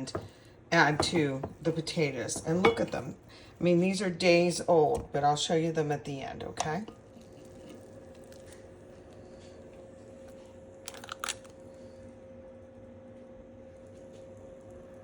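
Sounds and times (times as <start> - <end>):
faint kitchen hum: 0.0 - 15.0.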